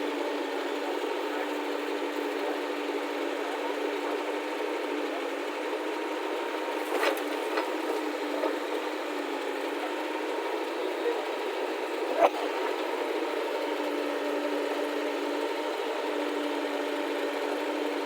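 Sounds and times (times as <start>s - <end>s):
diesel engine running: 0.1s - 18.0s.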